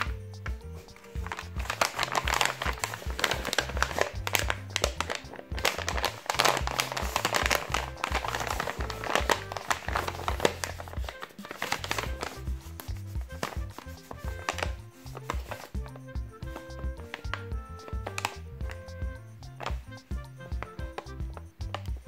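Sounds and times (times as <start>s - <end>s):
background music: 0.0s - 22.0s
paper crinkling and rustling: 0.7s - 18.4s.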